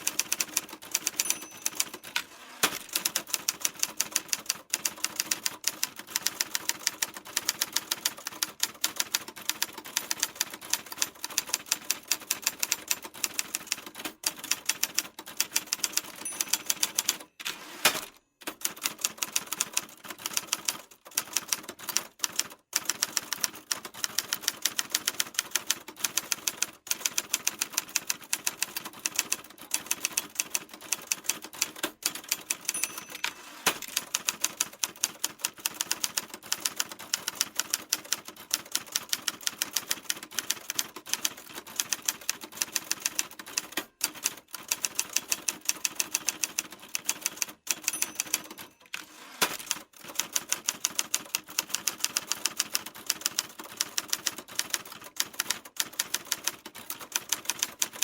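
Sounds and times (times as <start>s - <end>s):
typewriter keys clacking: 0.0s - 58.0s.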